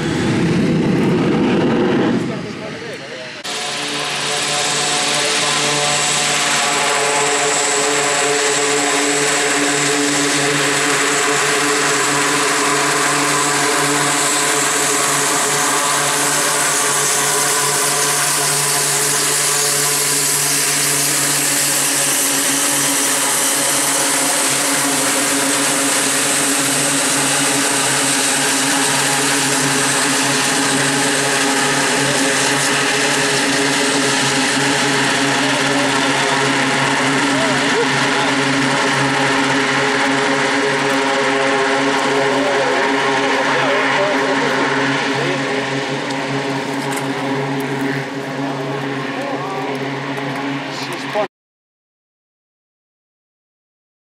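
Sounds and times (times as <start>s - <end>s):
turboprop engines running: 0.0s - 51.3s.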